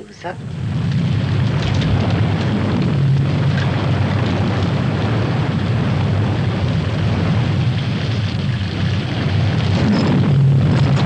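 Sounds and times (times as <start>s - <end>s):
deep rumbling roar with hiss: 0.0s - 11.0s.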